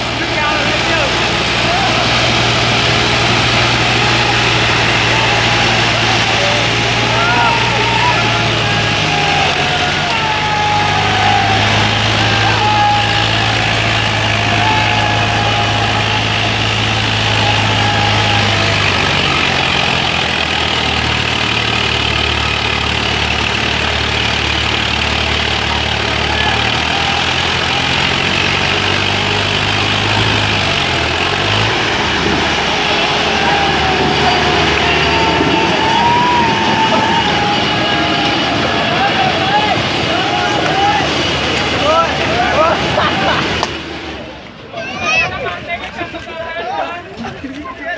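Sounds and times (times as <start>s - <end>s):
diesel tractor engines running: 0.0s - 47.9s.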